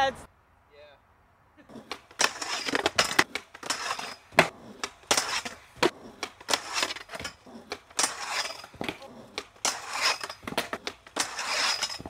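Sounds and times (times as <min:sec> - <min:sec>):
skateboard grinding on metal rail: 0:01.7 - 0:12.0.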